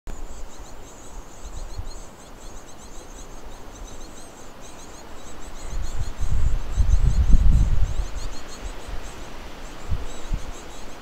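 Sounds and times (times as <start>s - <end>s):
nestling birds begging chirps: 0.1s - 11.0s.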